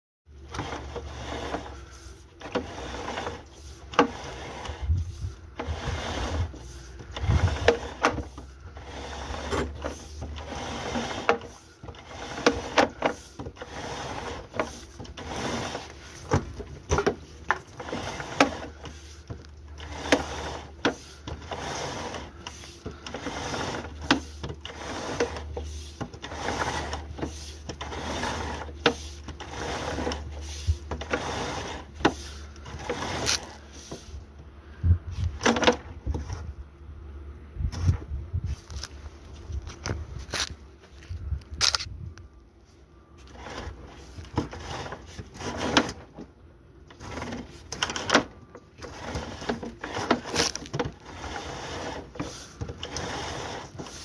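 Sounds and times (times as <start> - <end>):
steady low hum: 0.4 - 54.0.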